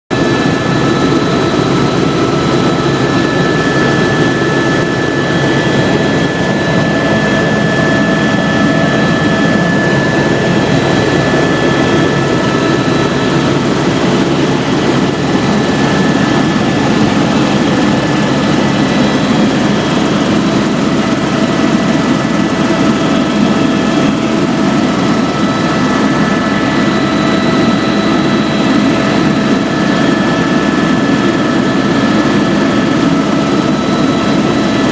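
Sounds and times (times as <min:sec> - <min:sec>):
helicopter turbine and rotors drone: 0:00.1 - 0:34.9
high whine: 0:00.1 - 0:34.9.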